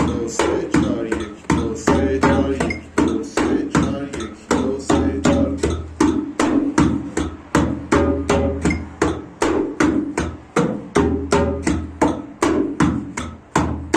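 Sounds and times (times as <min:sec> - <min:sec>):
djembe played by hand: 0:00.0 - 0:13.9.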